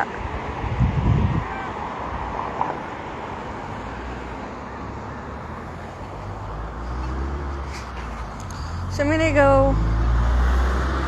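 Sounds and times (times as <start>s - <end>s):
low engine rumble: 0.0s - 11.0s
tyres hissing on road: 0.0s - 11.0s.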